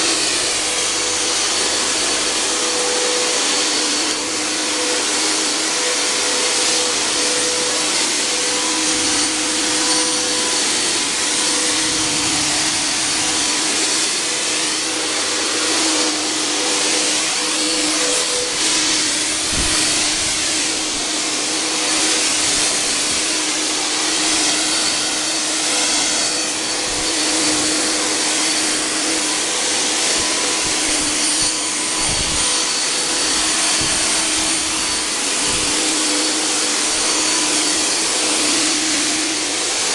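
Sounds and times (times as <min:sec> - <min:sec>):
fog generator blower whine: 0:00.0 - 0:39.9.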